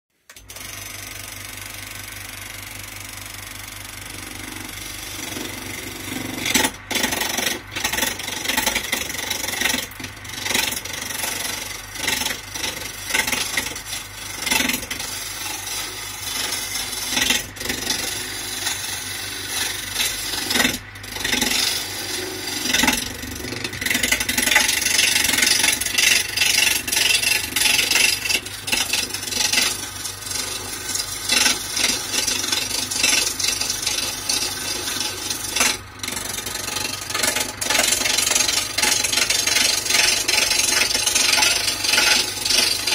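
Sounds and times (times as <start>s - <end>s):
lathe humming: 0.3s - 42.9s
gouge scraping spinning wood: 0.4s - 42.9s.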